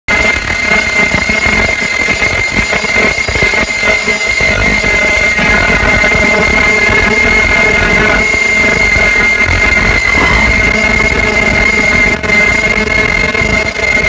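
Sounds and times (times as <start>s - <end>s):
high-pitched machine whine: 0.1s - 14.0s.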